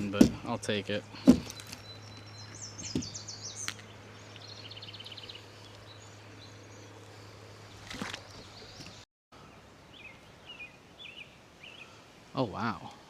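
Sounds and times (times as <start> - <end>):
songbirds calling: 0.0 - 13.0.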